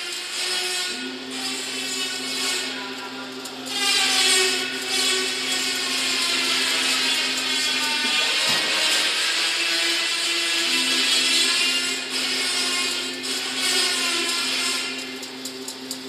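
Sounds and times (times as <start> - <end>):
machine humming: 0.0 - 16.0
whirring tones gliding in pitch: 0.9 - 16.0.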